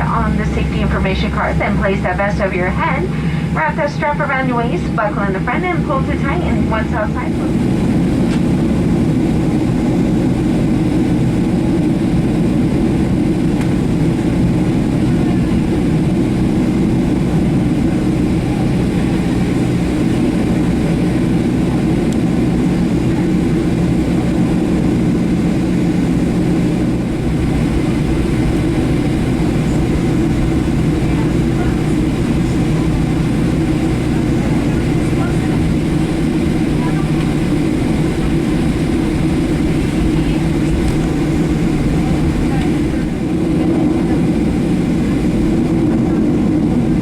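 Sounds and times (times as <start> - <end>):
jet engine cabin rumble: 0.0 - 47.0.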